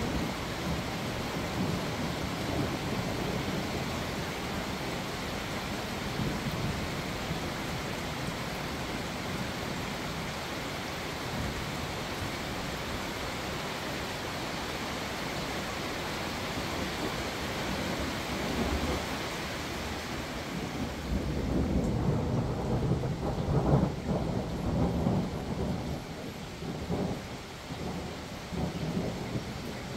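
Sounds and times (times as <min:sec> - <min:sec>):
distant rolling thunder: 0:00.0 - 0:10.3, 0:16.2 - 0:29.9
steady rain: 0:00.0 - 0:29.9.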